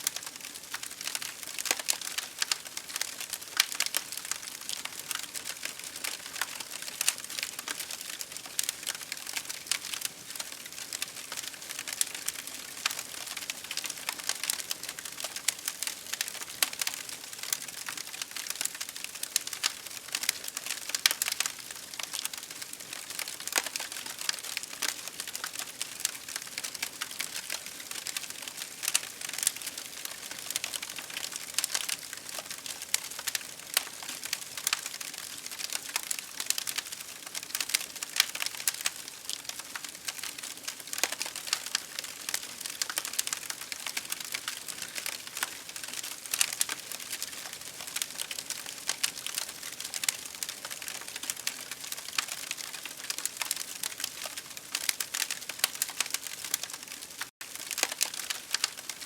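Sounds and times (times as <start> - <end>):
wood campfire crackling: 0.0 - 59.0.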